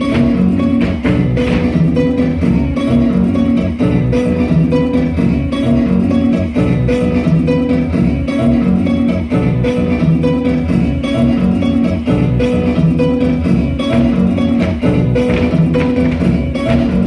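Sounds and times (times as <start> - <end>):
dance music with plucked strings: 0.0 - 17.0.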